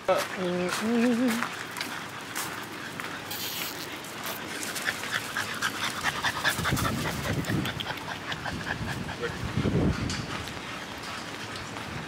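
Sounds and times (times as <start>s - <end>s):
dogs panting: 0.2s - 3.3s, 4.0s - 12.0s.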